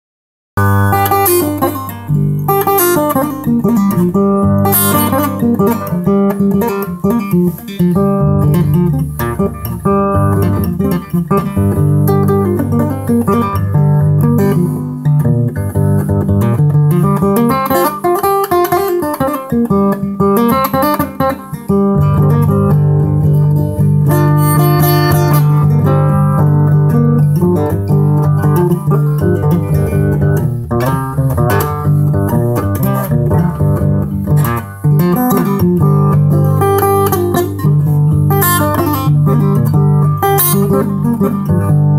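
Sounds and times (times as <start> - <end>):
solo acoustic guitar: 0.6 - 41.9.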